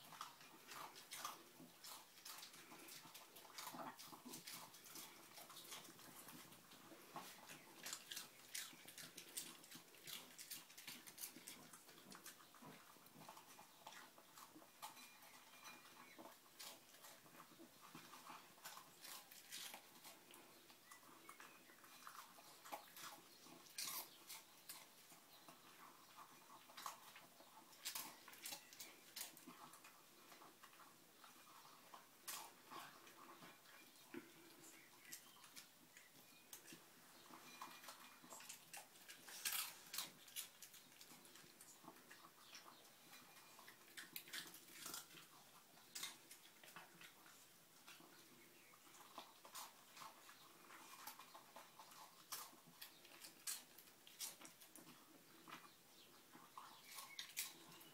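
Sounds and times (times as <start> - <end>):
dog crunching dry kibble: 0.0 - 55.6, 56.3 - 57.9.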